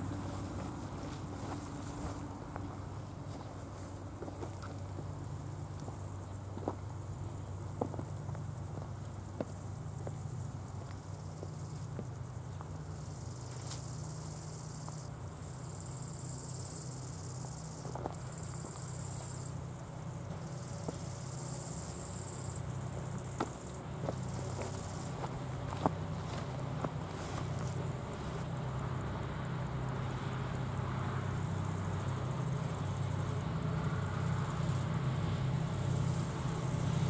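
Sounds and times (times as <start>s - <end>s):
crickets chirping: 0.0s - 37.0s
steady low hum: 0.0s - 37.0s.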